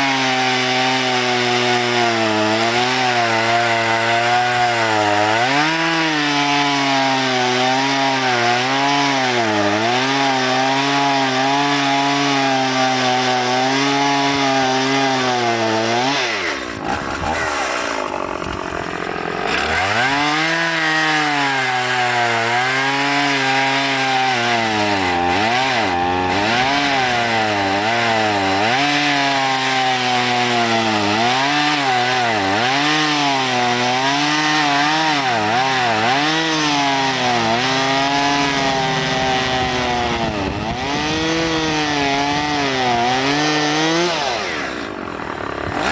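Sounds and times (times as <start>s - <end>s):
chainsaw cutting logs: 0.0s - 45.9s.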